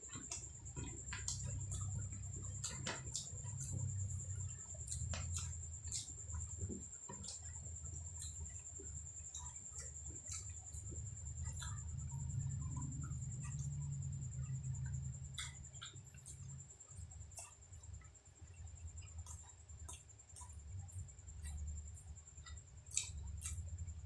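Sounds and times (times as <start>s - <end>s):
chewing mouth sounds: 0.0s - 17.9s, 22.4s - 24.0s
thin steady high whine: 0.0s - 24.0s.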